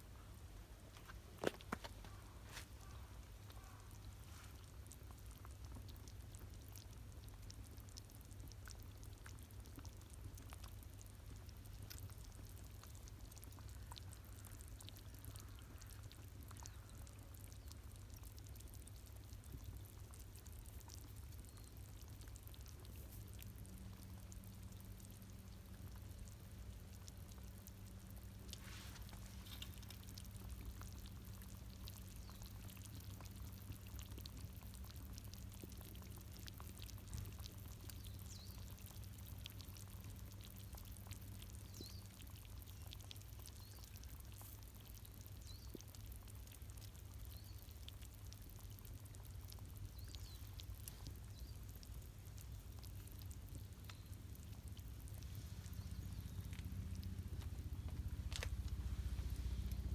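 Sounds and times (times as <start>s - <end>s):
low steady hum: 0.0s - 59.9s
campfire crackling: 0.8s - 59.9s.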